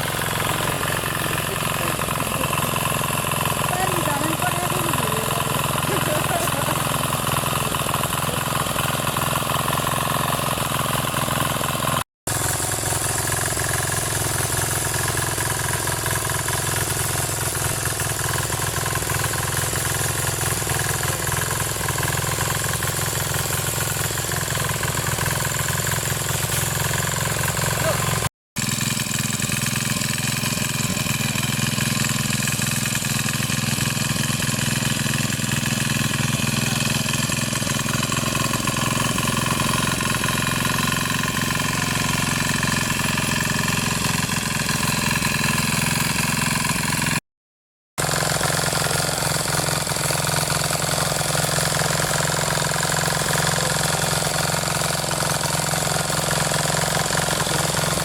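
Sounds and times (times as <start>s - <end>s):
power tiller engine running: 0.0s - 47.2s, 48.0s - 58.0s.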